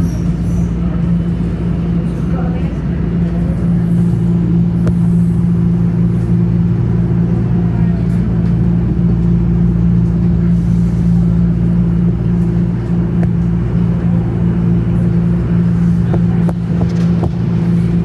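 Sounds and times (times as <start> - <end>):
low motor hum: 0.0 - 18.0
subway train rumble: 0.0 - 18.0.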